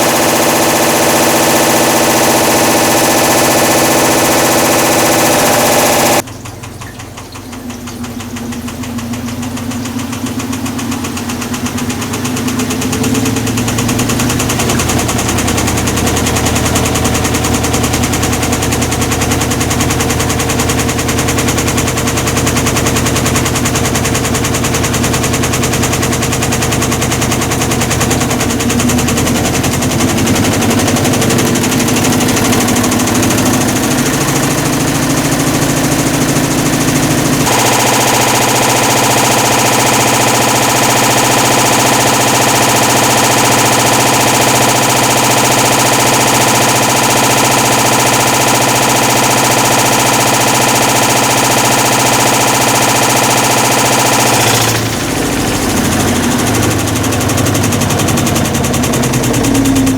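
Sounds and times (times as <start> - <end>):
washing machine grinding rattle: 0.0 - 59.9.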